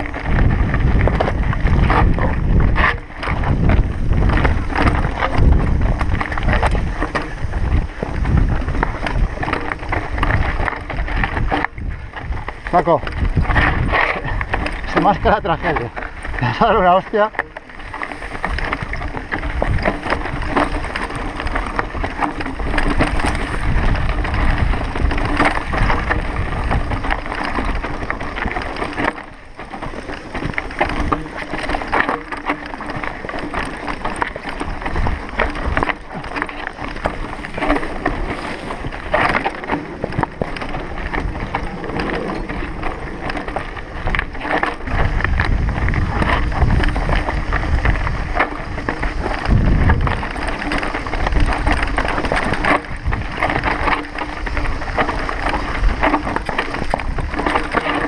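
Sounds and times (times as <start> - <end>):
bike rattling: 0.0 - 58.0
tyres crunching over stones: 0.0 - 58.0
wind on microphone: 0.0 - 58.0.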